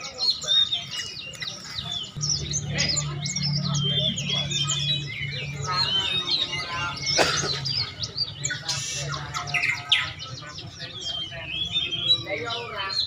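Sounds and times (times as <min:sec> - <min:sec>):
songbirds chirping and calling: 0:00.0 - 0:13.0.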